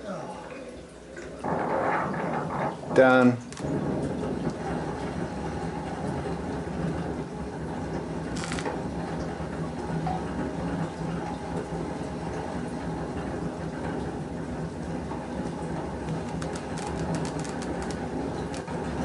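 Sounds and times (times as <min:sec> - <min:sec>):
exercise bike humming and whirring: 0:01.4 - 0:19.0.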